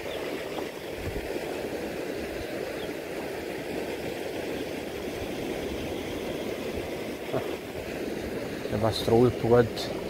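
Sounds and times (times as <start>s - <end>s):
water rushing over gravel: 0.0s - 10.0s.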